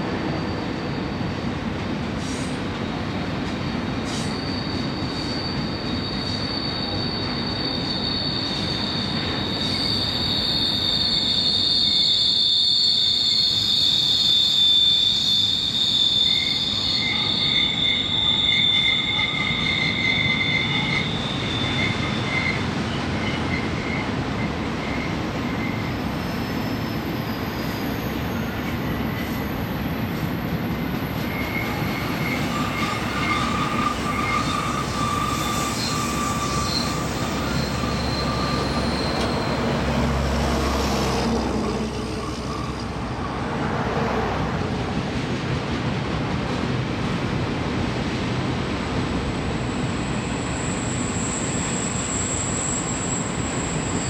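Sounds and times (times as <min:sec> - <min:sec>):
shrill wheel squeal: 0:00.0 - 0:44.7, 0:48.9 - 0:54.0
train wheels rumbling on rail: 0:00.0 - 0:54.0.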